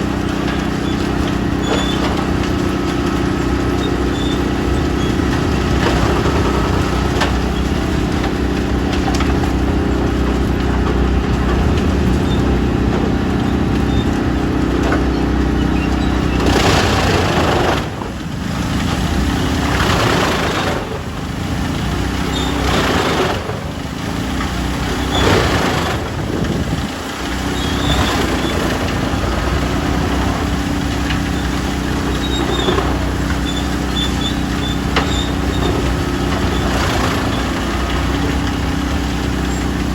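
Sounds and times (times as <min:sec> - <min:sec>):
diesel engine drone: 0:00.0 - 0:39.9
wood chipper chipping bursts: 0:00.0 - 0:39.9.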